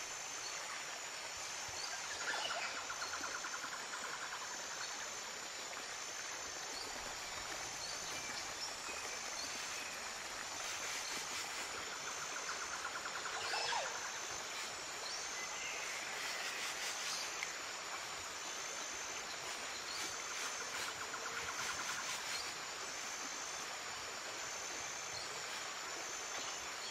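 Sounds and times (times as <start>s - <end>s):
stream running over stones: 0.0s - 26.9s.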